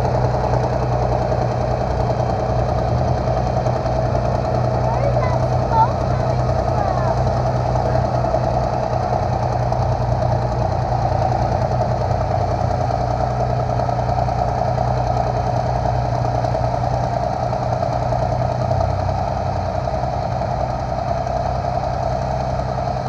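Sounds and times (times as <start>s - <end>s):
large engine idling: 0.0s - 23.0s.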